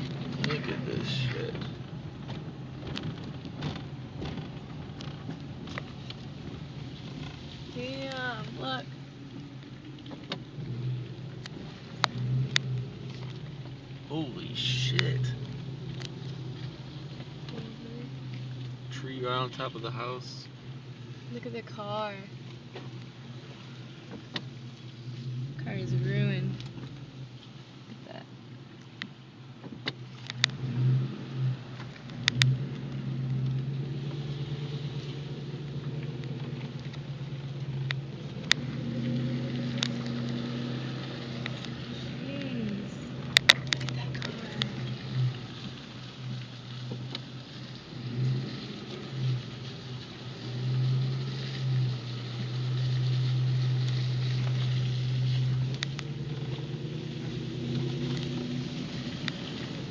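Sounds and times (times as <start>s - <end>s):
car engine running: 0.0s - 59.9s
road noise: 0.0s - 59.9s.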